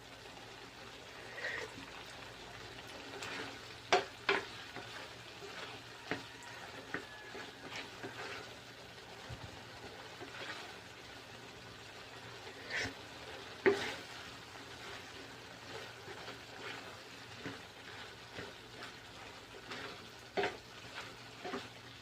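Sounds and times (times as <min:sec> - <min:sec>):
meat sizzling in a pan: 0:00.0 - 0:22.0
spatula scraping a pan: 0:01.1 - 0:22.0.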